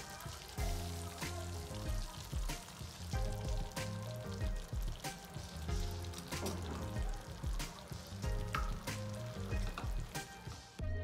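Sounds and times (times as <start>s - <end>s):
sauce sizzling and bubbling: 0.0s - 10.8s
background music: 0.0s - 11.0s.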